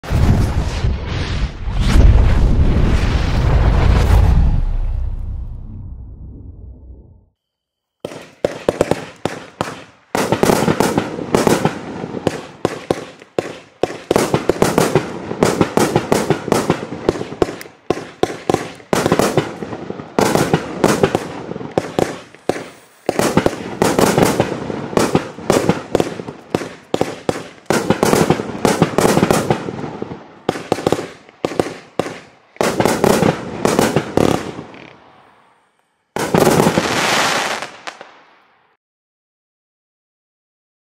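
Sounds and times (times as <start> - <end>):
fireworks bangs: 0.0 - 6.0, 8.0 - 38.6.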